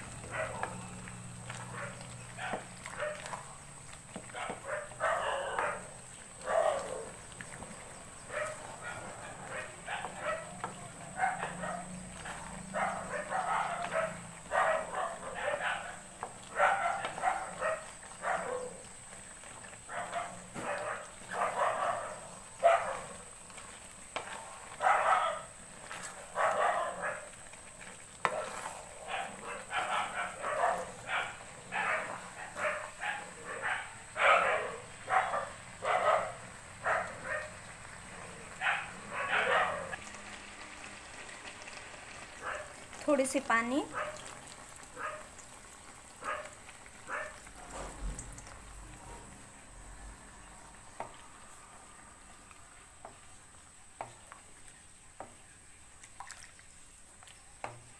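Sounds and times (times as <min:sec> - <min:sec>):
faint sizzle: 0:00.0 - 0:57.9.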